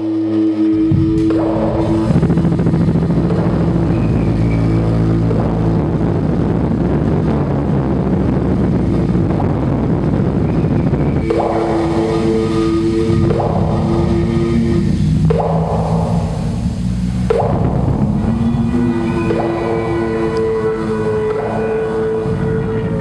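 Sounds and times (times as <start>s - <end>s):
rough wall of noise: 0.0s - 23.0s
steady low drone: 0.0s - 23.0s
sustained low tones: 0.0s - 23.0s.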